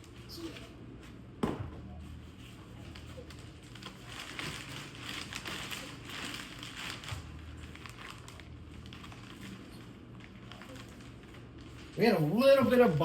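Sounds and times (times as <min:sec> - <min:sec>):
faint low hum: 0:00.0 - 0:13.0
packaging rustling and scraping: 0:01.9 - 0:13.0.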